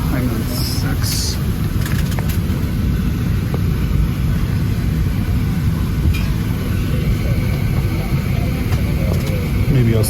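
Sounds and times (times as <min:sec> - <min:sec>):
aircraft cabin ventilation rumble: 0:00.0 - 0:10.0.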